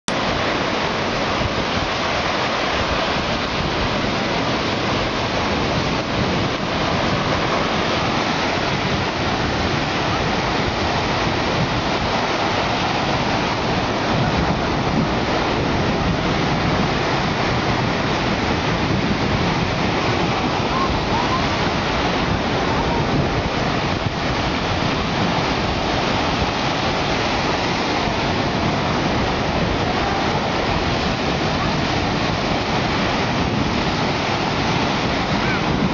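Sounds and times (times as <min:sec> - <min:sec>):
surf breaking on beach: 0:00.1 - 0:35.9
wind on microphone: 0:00.1 - 0:35.9.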